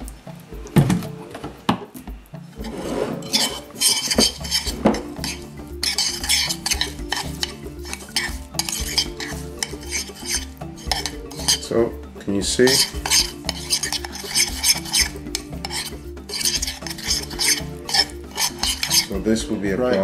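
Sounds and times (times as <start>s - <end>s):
metal spoon scraping ceramic bowl: 2.5s - 20.0s.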